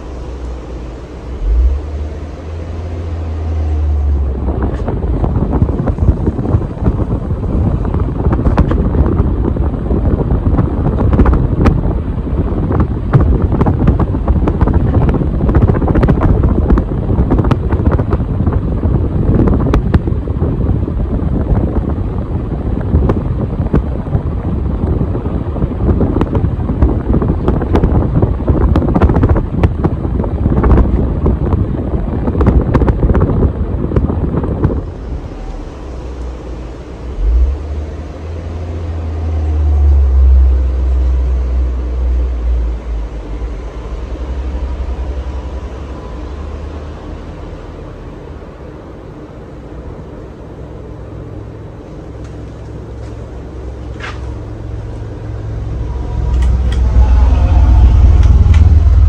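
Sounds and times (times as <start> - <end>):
ceiling fan air rushing: 0.0 - 59.0.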